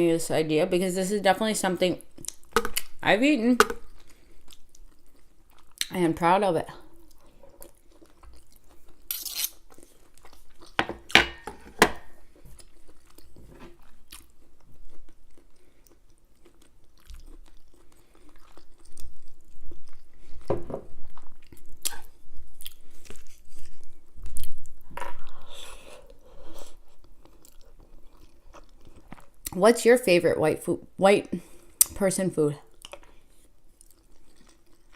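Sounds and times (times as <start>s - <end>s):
person chewing food: 2.1s - 3.0s, 3.7s - 5.9s, 6.8s - 29.5s, 32.7s - 34.9s.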